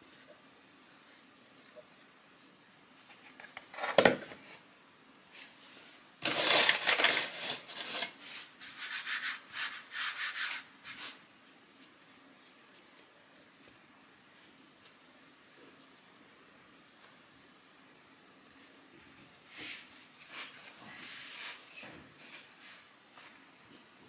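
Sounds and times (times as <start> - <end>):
hands rubbing dough: 0.0 - 24.0.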